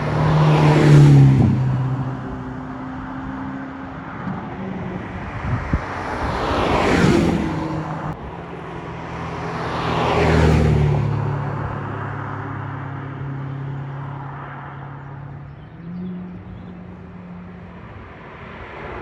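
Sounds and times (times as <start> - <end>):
sports cars driving past: 0.0 - 19.0.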